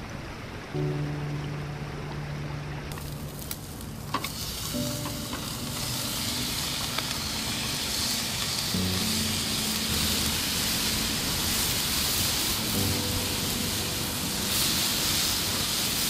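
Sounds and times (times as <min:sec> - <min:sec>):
soft background music: 0:00.1 - 0:16.0
food sizzling in hot oil: 0:02.9 - 0:16.0
oil crackling: 0:02.9 - 0:16.0.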